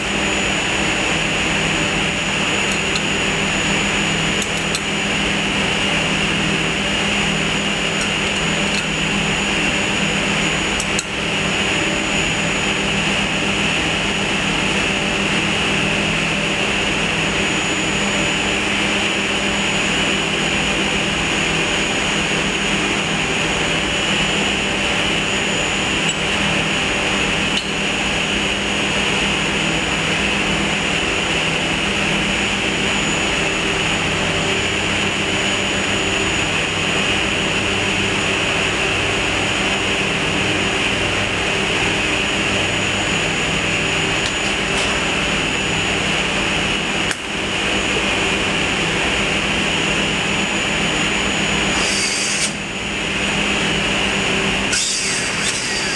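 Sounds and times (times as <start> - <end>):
machine drone with high whine: 0.0 - 55.9.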